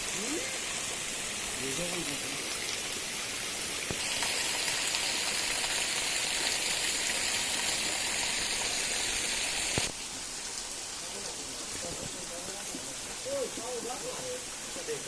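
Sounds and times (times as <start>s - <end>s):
small waterfall splashing: 0.0s - 15.0s.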